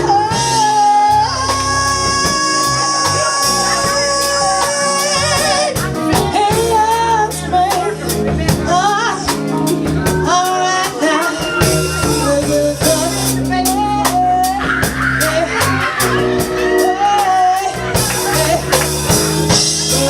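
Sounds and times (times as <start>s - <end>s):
live band playing: 0.0s - 20.0s
person singing with vibrato: 0.0s - 20.0s
steady drum beat: 0.0s - 20.0s.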